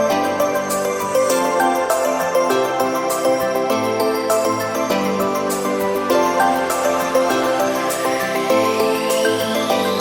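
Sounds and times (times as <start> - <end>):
melodic instrumental music: 0.0 - 10.0.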